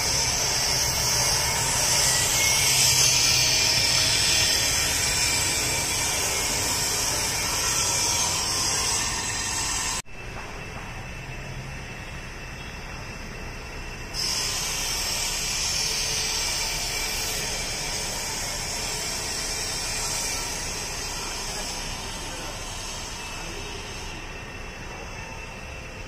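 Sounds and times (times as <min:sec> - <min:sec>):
loud steady hiss: 0:00.0 - 0:26.0.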